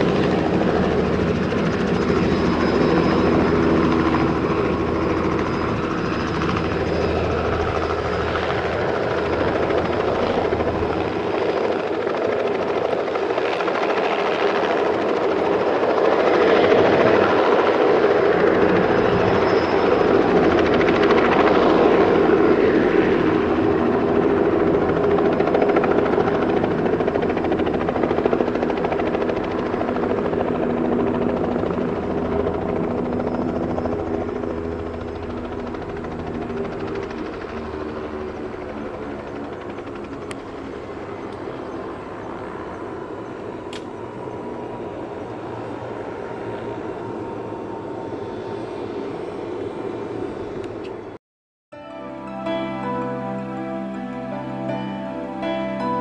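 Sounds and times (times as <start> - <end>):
helicopter engine and rotor: 0.0 - 51.2, 52.0 - 56.0.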